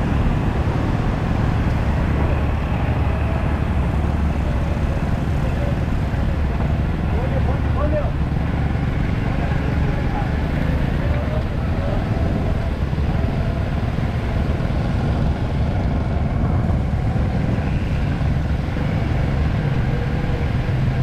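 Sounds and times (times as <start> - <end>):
low engine drone: 0.0 - 21.0
wind rumble on microphone: 0.0 - 21.0.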